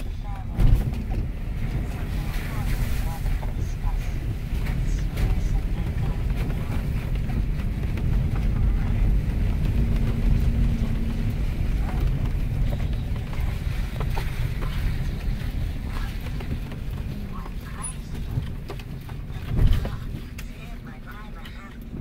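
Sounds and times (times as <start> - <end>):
low rumble of tyres and engine: 0.0 - 22.0.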